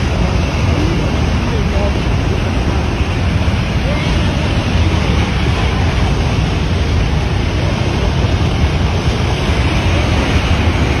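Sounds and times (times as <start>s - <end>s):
floodwater rushing: 0.0s - 11.0s
low water rumble: 0.0s - 11.0s.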